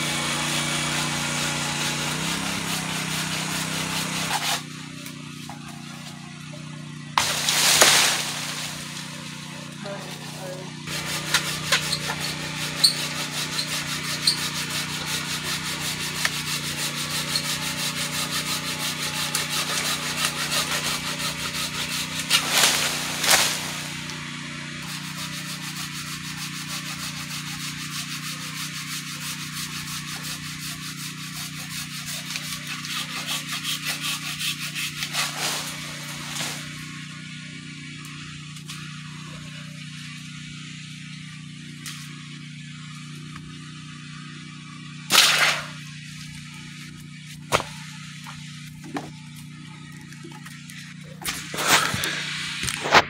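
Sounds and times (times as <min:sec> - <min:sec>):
hand saw cutting a branch: 0:00.0 - 0:06.5, 0:07.2 - 0:37.2, 0:45.1 - 0:53.0.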